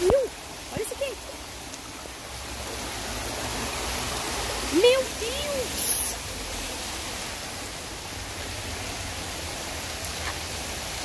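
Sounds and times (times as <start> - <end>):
heavy rain on a street: 0.0 - 11.0
water rushing along gutter: 0.0 - 11.0.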